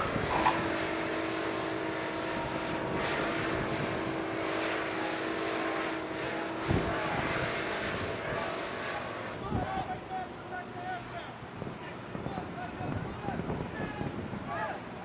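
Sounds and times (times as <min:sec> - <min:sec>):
aircraft engine running: 0:00.0 - 0:14.3.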